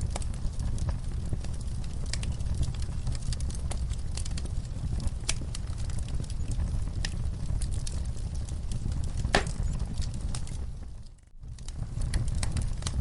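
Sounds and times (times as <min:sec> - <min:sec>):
low rumble of burning: 0:00.0 - 0:13.0
wood fire crackling and popping: 0:00.0 - 0:13.0.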